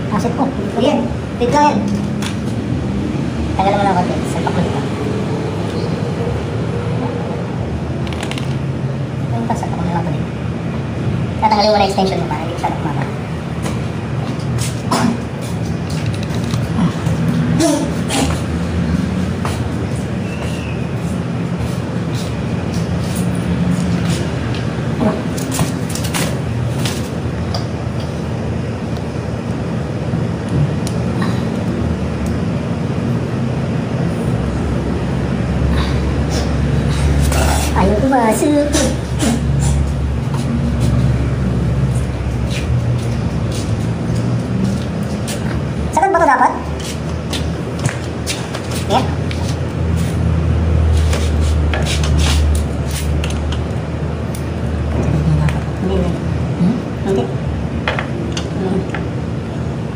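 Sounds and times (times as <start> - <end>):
steady low hum: 0.0 - 59.9
steady low rumble: 0.0 - 59.9.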